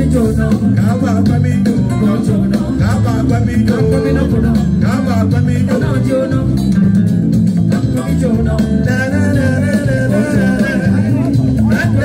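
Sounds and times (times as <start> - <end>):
bass guitar: 0.0 - 12.0
guitar: 0.0 - 12.0
man singing: 0.0 - 12.0.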